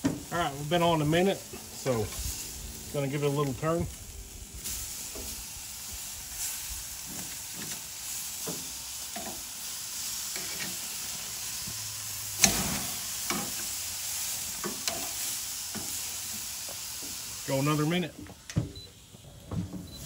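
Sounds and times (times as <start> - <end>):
steaks sizzling on a grill: 0.0 - 20.0.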